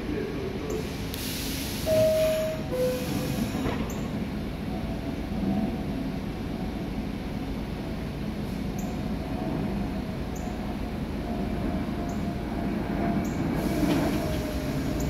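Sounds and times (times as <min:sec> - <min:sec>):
subway car equipment rumble: 0:00.0 - 0:15.0.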